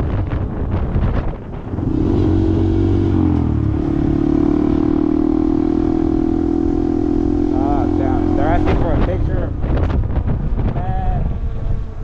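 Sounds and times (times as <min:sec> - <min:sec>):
road and wind noise: 0:00.0 - 0:12.0
vehicle engine accelerating: 0:01.0 - 0:10.6.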